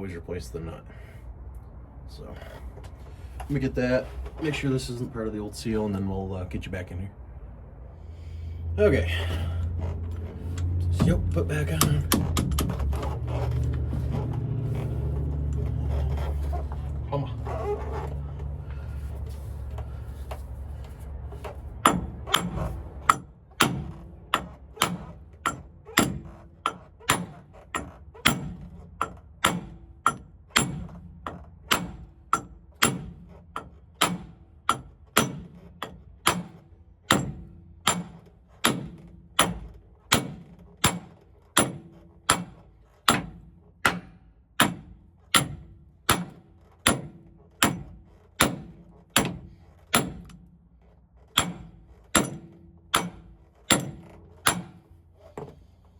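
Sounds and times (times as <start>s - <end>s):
low steady rumble: 0.0s - 55.9s.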